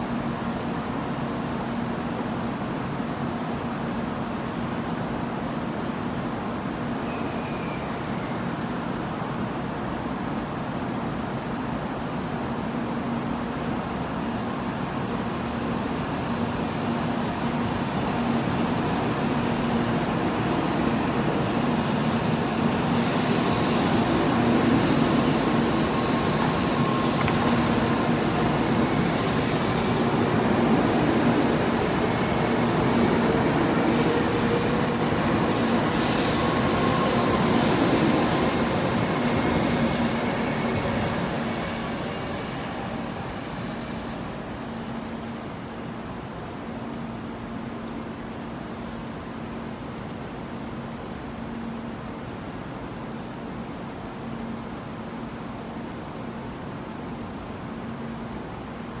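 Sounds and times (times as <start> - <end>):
train wheels rolling rush: 0.0 - 59.0.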